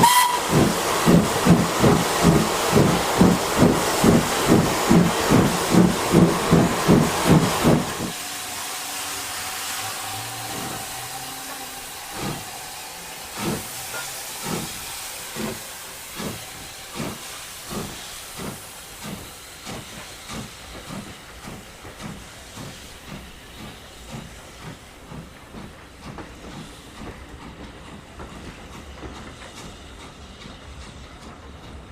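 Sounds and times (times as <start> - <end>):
steam hissing: 0.0 - 31.9
steam train exhaust beats: 0.0 - 31.9.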